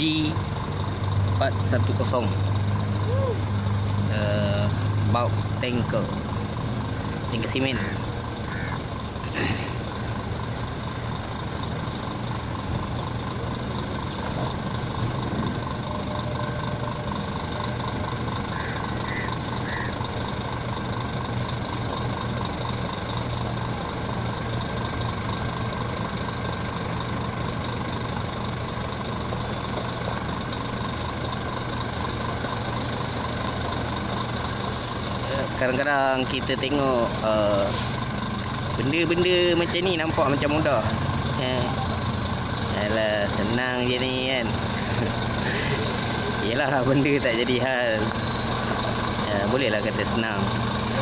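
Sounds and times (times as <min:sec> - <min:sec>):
diesel truck engine idling: 0:00.0 - 0:51.0.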